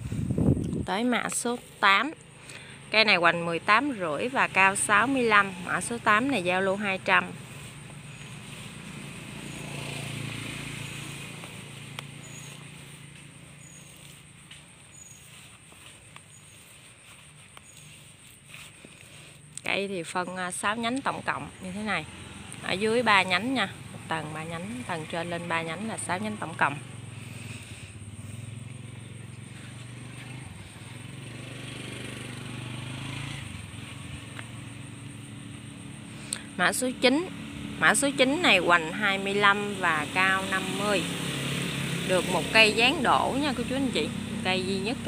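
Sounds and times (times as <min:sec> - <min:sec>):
outdoor noise: 0:00.0 - 0:45.0
vehicle engine humming: 0:00.0 - 0:45.0.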